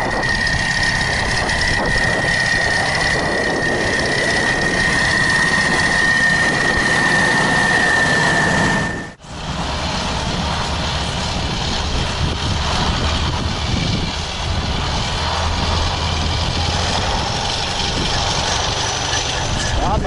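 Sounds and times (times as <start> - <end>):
diesel engine running under load: 0.0 - 20.0
high-pitched whine: 0.0 - 20.0.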